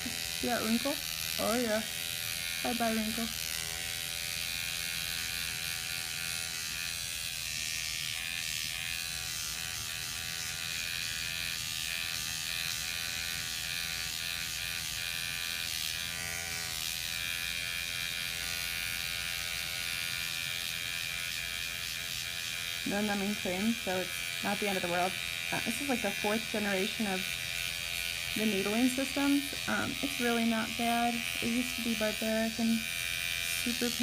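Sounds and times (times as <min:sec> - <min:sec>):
electric pen buzzing: 0:00.0 - 0:34.0.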